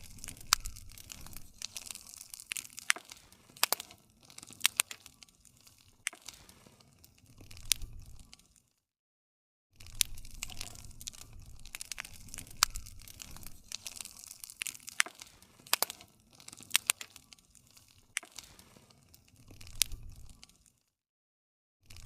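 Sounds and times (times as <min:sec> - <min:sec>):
soft hiss of burning: 0:00.0 - 0:08.6, 0:09.8 - 0:20.8
campfire crackling: 0:00.0 - 0:08.7, 0:09.8 - 0:20.8
low rumble of burning: 0:00.0 - 0:08.7, 0:09.8 - 0:20.8.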